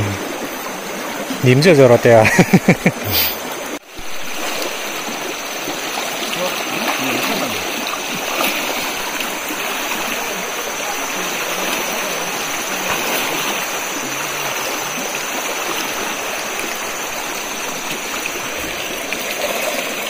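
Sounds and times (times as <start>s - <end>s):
river rushing over rocks: 3.3s - 20.0s.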